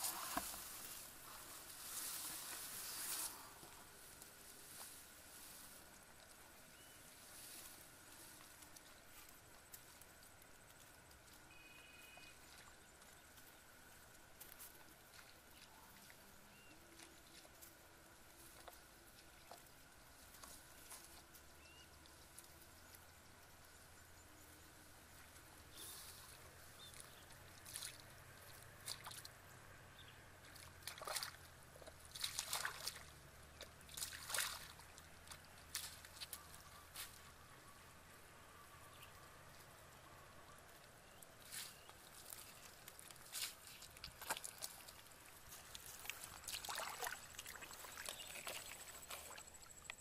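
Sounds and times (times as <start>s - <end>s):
bare feet splashing in water and mud: 0.0s - 37.5s, 40.6s - 50.0s.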